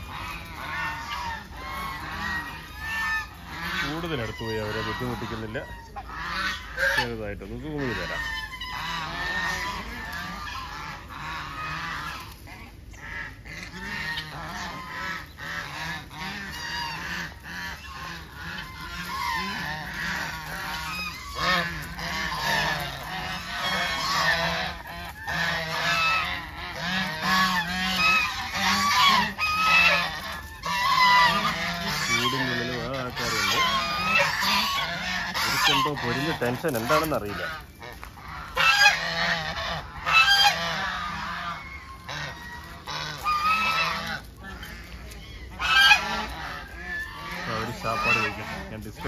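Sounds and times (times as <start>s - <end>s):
geese honking: 0.0s - 49.0s.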